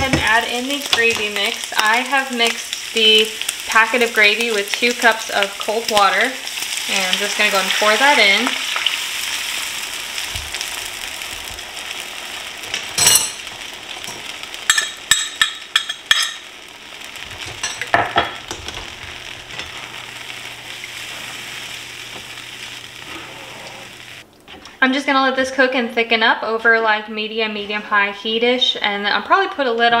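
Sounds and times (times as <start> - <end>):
gravy sizzling in a skillet: 0.0 - 24.3.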